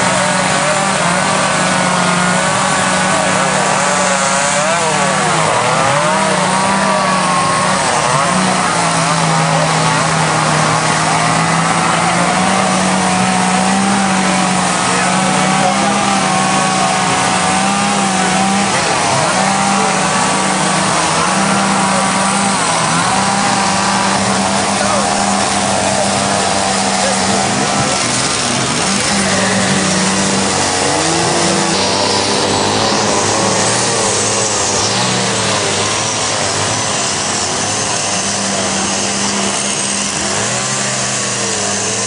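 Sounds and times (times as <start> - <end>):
chainsaws and power carving tools: 0.0 - 42.0.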